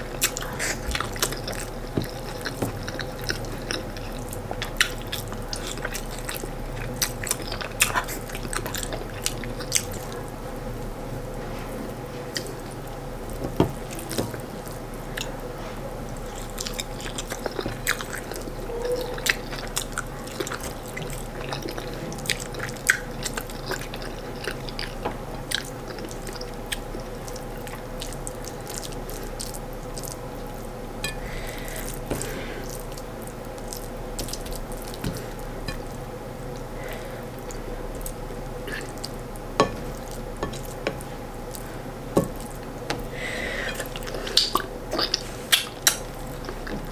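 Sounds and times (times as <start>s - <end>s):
faint steady hum: 0.0s - 46.9s
wet chewing and mouth clicks: 0.1s - 10.2s, 16.2s - 43.1s, 43.7s - 46.9s.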